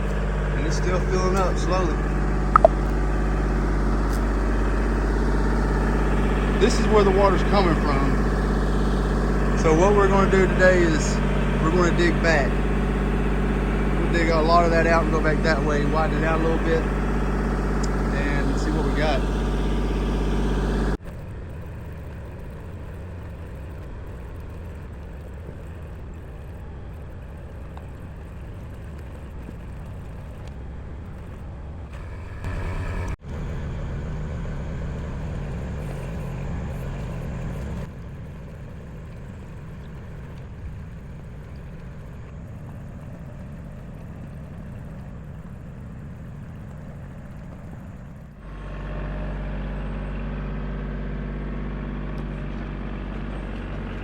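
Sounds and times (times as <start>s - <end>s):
digging machine engine rumble: 0.0s - 54.0s.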